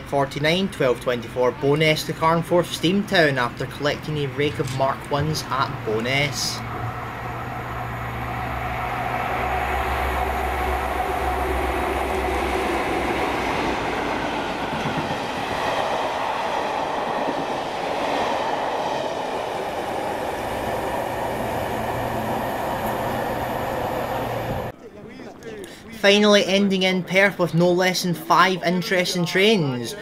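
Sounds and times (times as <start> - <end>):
diesel locomotive engine drone: 0.0 - 24.7.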